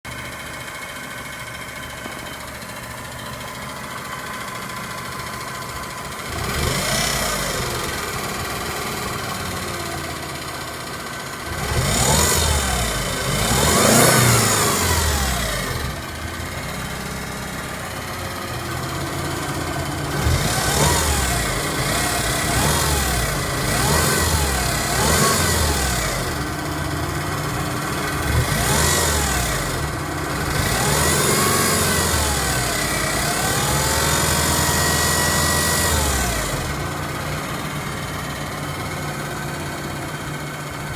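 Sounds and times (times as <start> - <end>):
car engine running: 0.1 - 40.9
power steering pump whine: 0.1 - 40.9.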